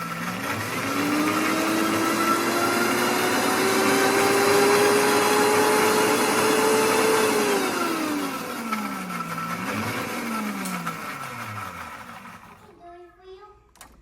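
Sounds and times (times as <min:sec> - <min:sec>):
blender motor running: 0:00.0 - 0:12.7.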